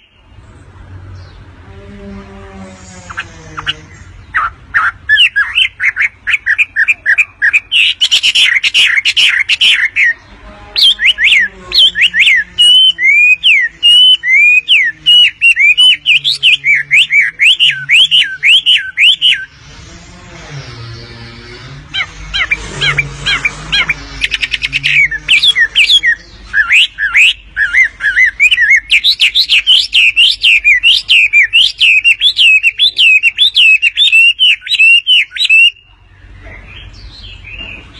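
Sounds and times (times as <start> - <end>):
bird chirping song: 0.0 - 19.9, 20.7 - 37.9.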